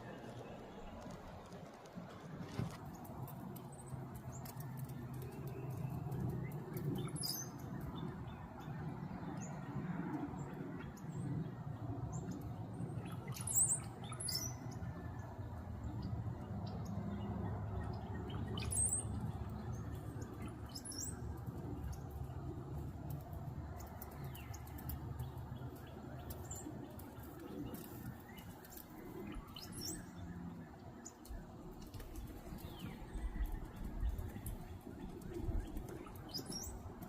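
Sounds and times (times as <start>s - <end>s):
songbirds chirping: 0.0s - 37.0s
steady low rumble: 0.0s - 37.0s.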